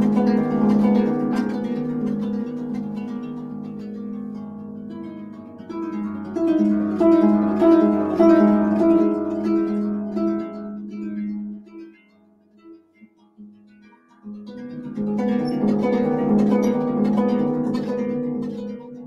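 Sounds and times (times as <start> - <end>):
harp music: 0.0 - 19.0.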